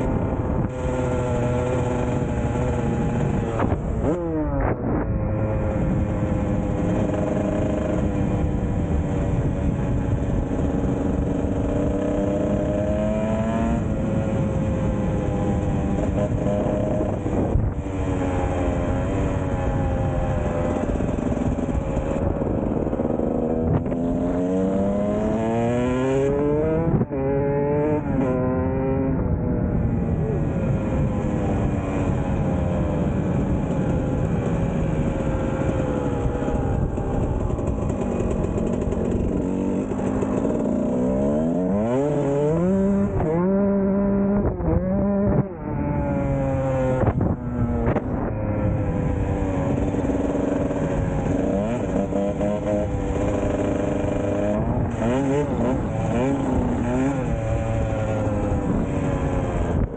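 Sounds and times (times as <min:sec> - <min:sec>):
dirt bike engine revving: 0:00.0 - 0:29.2, 0:30.1 - 0:59.9.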